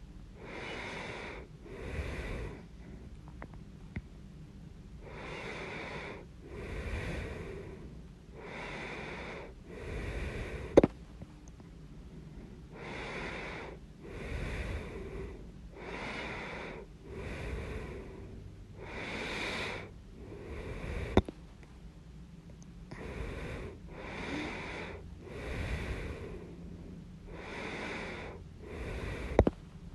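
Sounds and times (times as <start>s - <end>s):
person breathing slowly: 0.4s - 3.2s, 5.0s - 11.0s, 11.9s - 21.4s, 22.9s - 29.7s.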